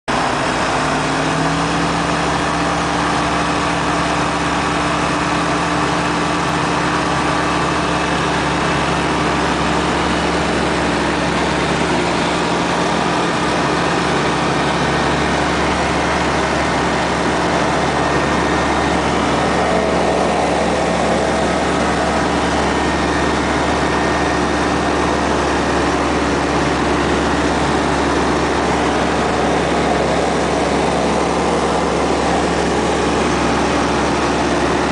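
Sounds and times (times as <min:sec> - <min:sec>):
propeller plane engine: 0:00.1 - 0:34.9
propeller and air rush: 0:00.2 - 0:34.9.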